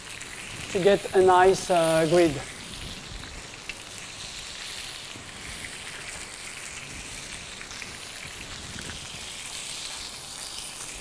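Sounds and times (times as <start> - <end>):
fish sizzling on grill pan: 0.0 - 11.0.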